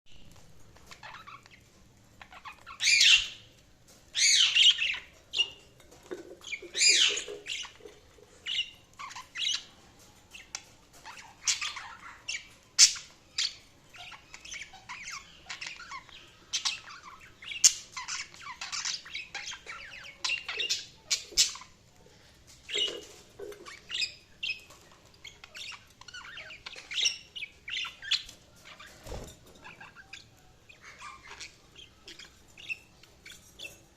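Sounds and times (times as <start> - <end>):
budgerigars chirping: 0.8 - 5.7, 6.4 - 21.8, 22.7 - 33.9.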